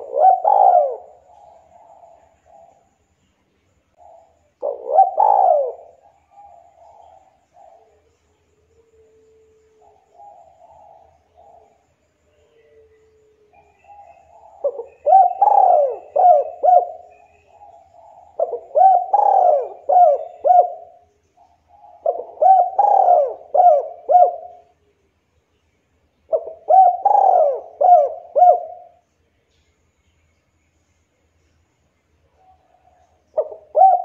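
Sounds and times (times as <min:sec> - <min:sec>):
dove cooing: 0:00.0 - 0:02.9, 0:04.0 - 0:24.8, 0:26.3 - 0:29.0, 0:32.4 - 0:34.0.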